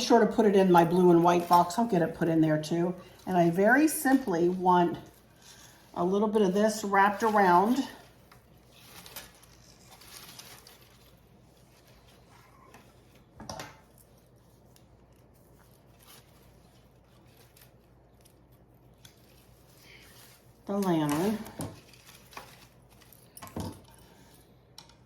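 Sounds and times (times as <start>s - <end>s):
artificial greenery rustling: 0.0s - 23.4s.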